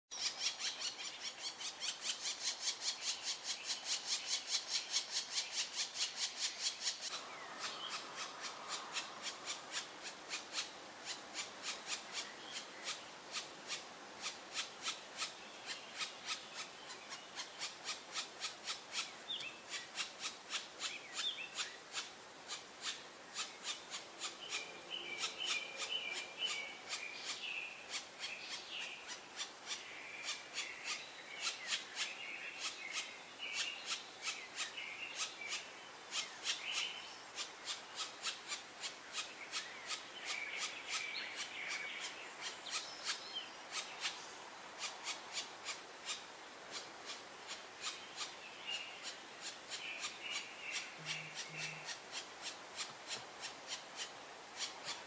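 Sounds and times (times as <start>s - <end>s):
woodpecker nestlings begging: 0.1s - 36.8s, 37.4s - 44.2s, 44.8s - 48.4s, 49.0s - 55.0s.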